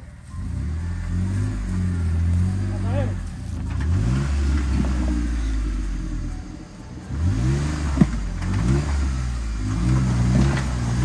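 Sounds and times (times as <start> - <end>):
engine revving in surges: 0.0 - 11.0.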